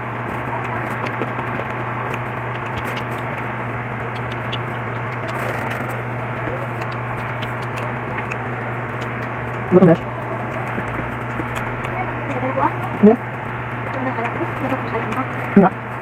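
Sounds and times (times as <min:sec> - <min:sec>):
utensils scraping on plates: 0:00.0 - 0:16.0.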